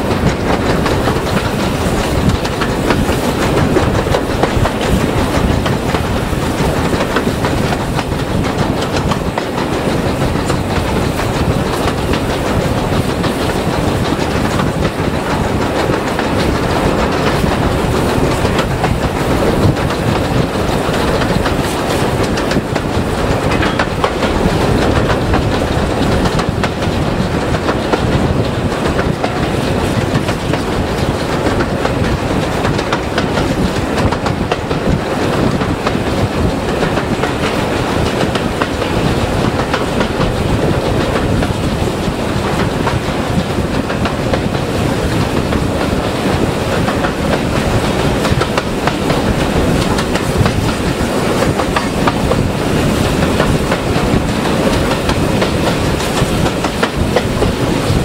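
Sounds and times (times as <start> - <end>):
train coaches rumbling: 0.0 - 58.0
wheels clattering over rail joints: 0.0 - 58.0.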